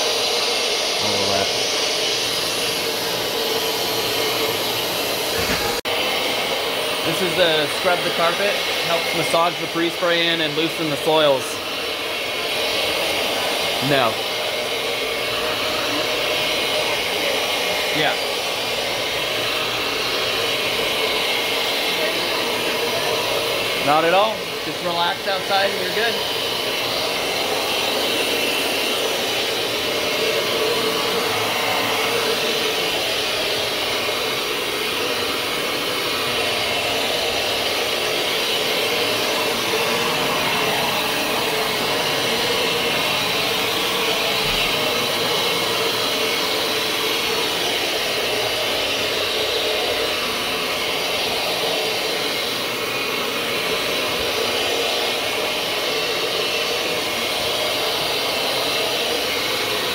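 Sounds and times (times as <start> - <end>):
carpet scrubbing machine running: 0.0 - 59.9.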